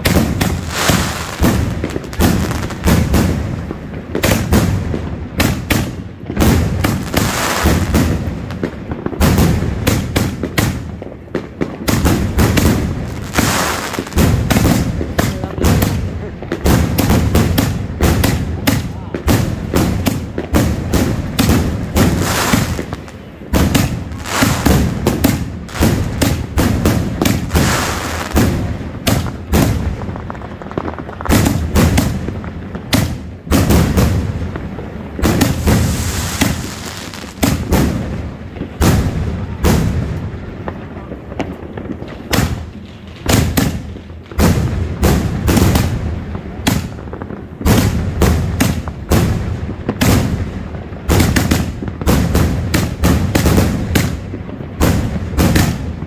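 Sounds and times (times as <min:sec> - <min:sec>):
firework cake launches and bangs: 0:00.0 - 0:56.0.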